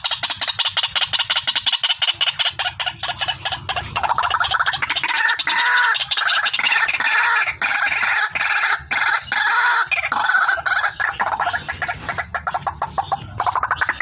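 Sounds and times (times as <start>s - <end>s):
waterhen harsh pulsing calls: 0.0s - 14.0s.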